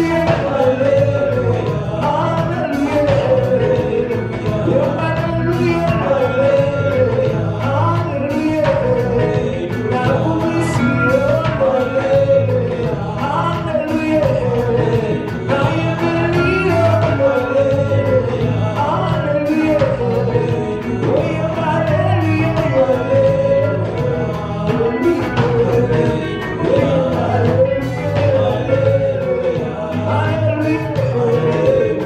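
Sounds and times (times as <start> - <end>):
band playing gospel song: 0.0 - 32.0
person singing melody: 0.0 - 32.0
steady drum beat: 0.0 - 32.0.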